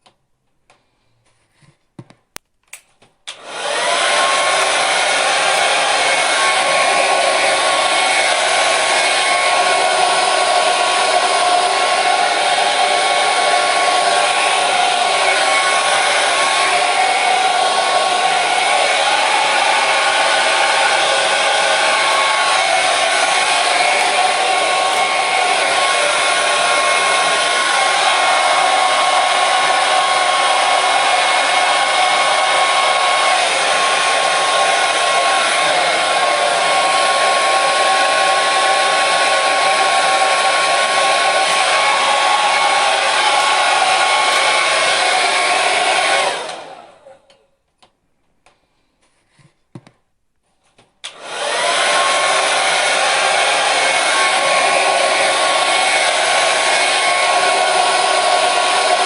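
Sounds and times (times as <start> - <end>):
hair dryer blowing: 3.3 - 47.4, 51.0 - 59.0.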